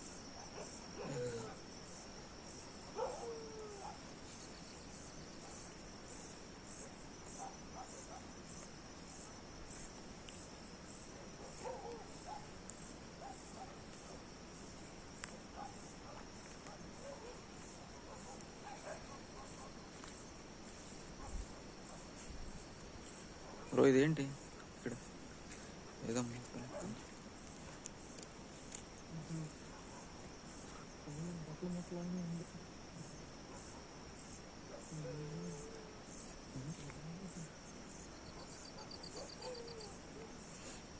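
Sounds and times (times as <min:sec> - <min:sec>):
crickets trilling: 0:00.0 - 0:40.9
insect chirping: 0:00.0 - 0:40.9.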